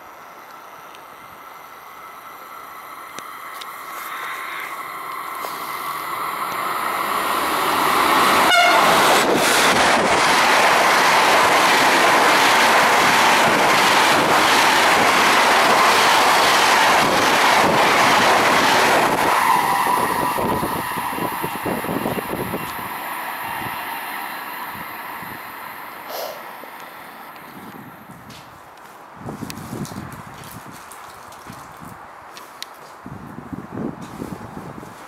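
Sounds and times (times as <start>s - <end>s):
passenger train passing: 0.0s - 30.7s.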